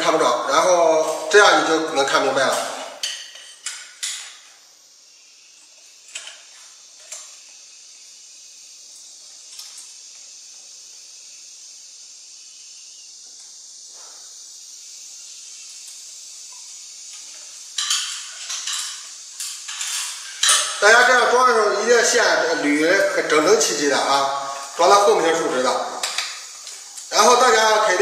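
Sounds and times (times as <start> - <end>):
steady high hiss: 0.0 - 28.0.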